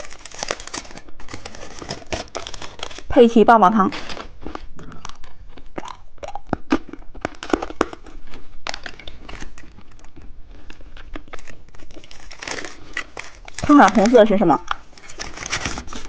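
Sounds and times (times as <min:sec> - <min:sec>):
hard candy crunching: 0:00.0 - 0:03.2, 0:03.9 - 0:16.0.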